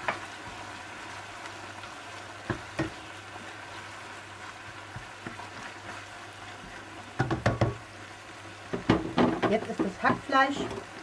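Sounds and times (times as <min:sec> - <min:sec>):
meat frying in a pan: 0:00.0 - 0:11.0.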